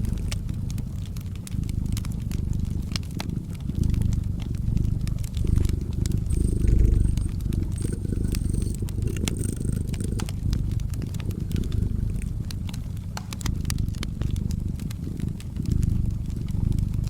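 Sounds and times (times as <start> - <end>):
cat purring: 0.0 - 17.0
wood fire crackling and popping: 0.0 - 17.0.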